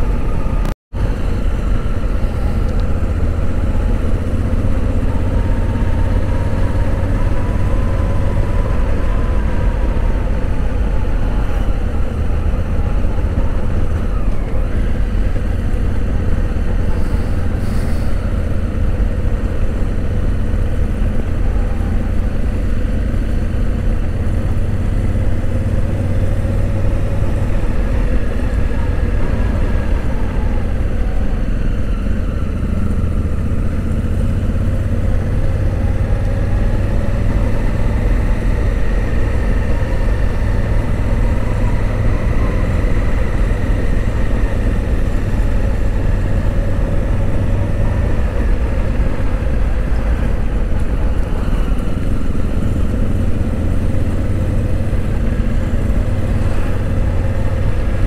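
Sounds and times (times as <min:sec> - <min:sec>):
motorcycle engine: 0:00.0 - 0:58.0
wind rumble on microphone: 0:00.0 - 0:58.0.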